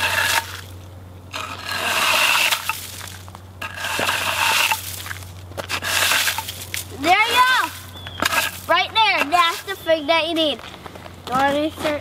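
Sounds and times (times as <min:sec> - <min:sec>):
pickaxe scraping ice on asphalt: 0:00.0 - 0:10.0.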